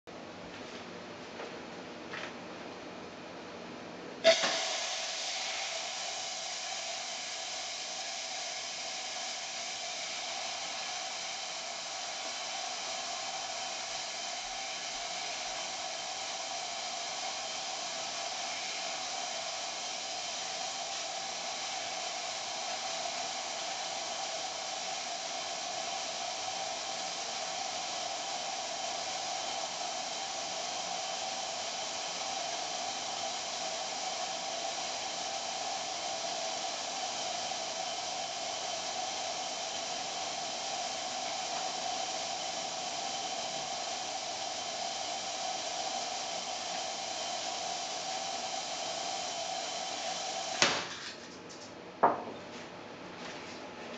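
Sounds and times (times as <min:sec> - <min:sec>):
steam wand hissing: 0:04.2 - 0:50.7.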